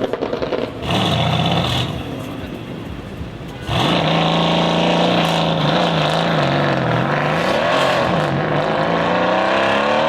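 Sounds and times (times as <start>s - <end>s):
car engine at steady revs: 0.7s - 10.0s.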